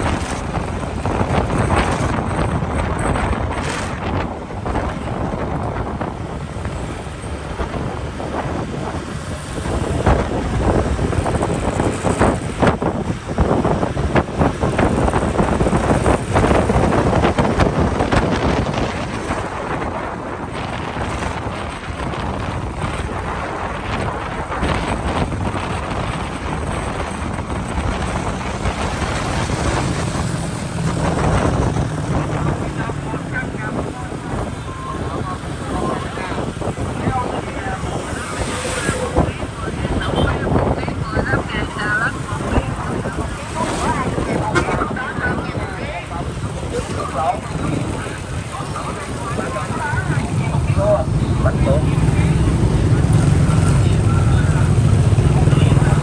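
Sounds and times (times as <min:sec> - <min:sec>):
motorbike engine: 0:00.0 - 0:56.0
surrounding traffic: 0:00.0 - 0:56.0
wind buffeting microphone: 0:00.0 - 0:56.0.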